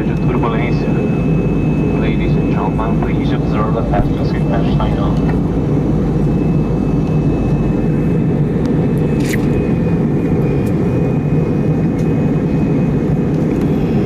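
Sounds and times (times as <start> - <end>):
airliner cabin rumble: 0.0 - 14.0
faint high whine: 0.0 - 14.0.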